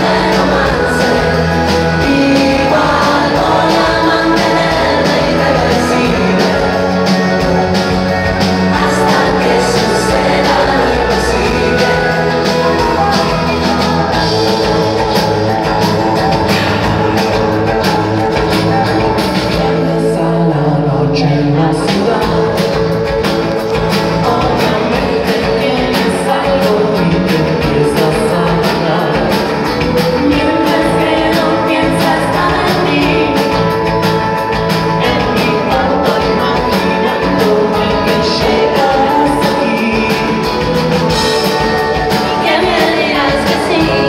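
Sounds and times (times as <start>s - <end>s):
pop band playing live with singing: 0.0s - 44.0s.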